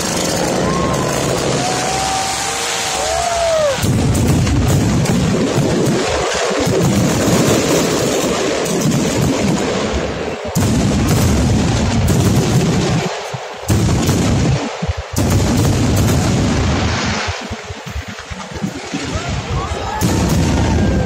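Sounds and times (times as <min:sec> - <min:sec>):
fireworks exploding: 0:00.0 - 0:21.0.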